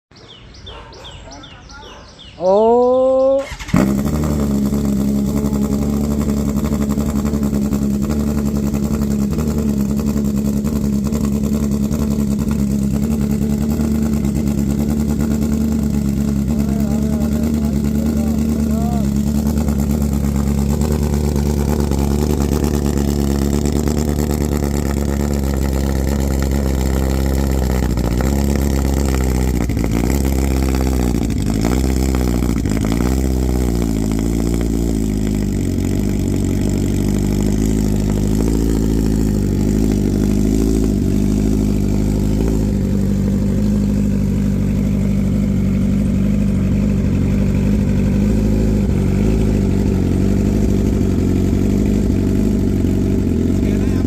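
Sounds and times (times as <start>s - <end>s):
motorcycle engine idling and revving: 0.1s - 54.0s.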